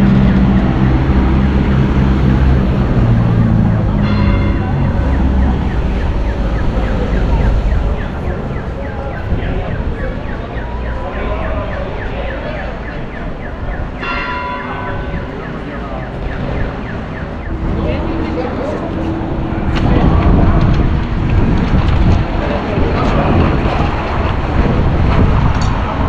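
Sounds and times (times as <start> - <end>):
repeated high falling notes: 0.0 - 21.3
vehicle low rumble: 0.0 - 26.0.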